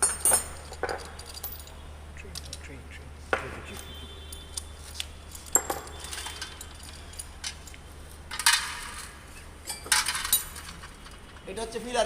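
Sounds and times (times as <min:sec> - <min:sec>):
metal parts and tools clinking: 0:00.0 - 0:02.7, 0:03.7 - 0:11.6.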